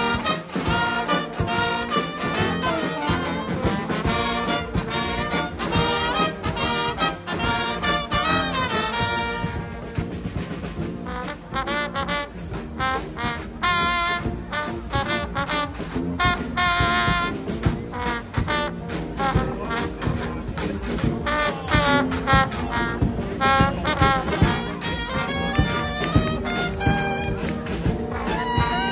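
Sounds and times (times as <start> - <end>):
bass drum and cymbal: 0.0 - 28.9
brass band playing: 0.0 - 28.9.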